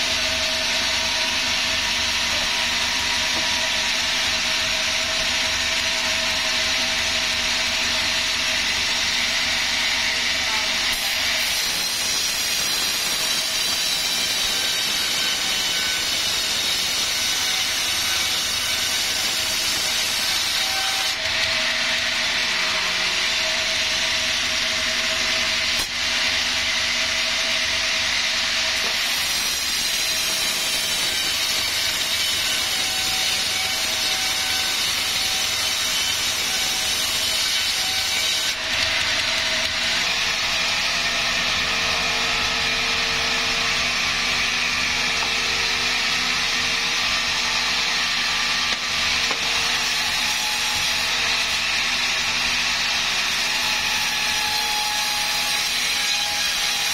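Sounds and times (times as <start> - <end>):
sawmill saw cutting log: 0.0 - 56.9.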